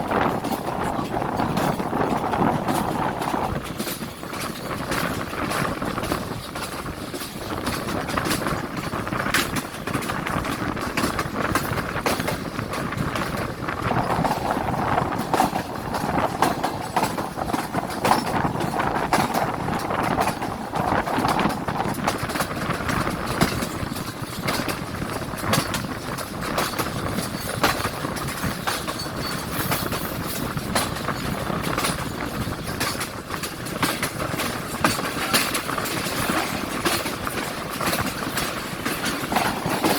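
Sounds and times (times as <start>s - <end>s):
passenger train rumbling and rattling: 0.0s - 39.9s
wheels clicking and clanking: 0.0s - 39.9s.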